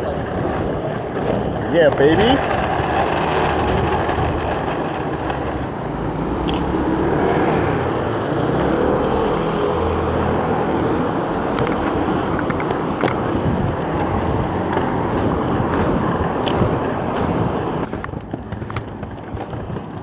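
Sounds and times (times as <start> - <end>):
skate wheels rolling on pavement: 0.0 - 20.0.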